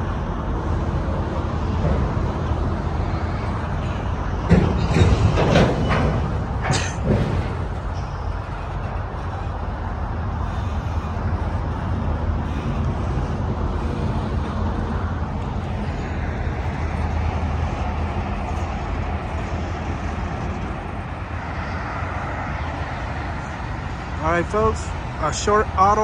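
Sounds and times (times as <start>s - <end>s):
freight train rolling on rails: 0.0s - 26.0s.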